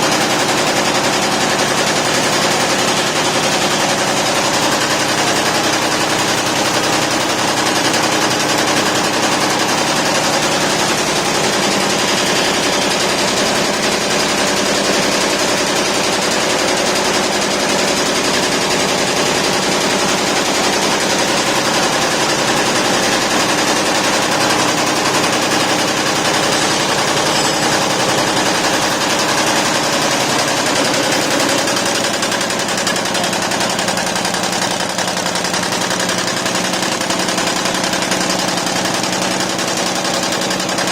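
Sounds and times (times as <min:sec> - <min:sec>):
embroidery machine stitching clatter: 0:00.0 - 0:40.9.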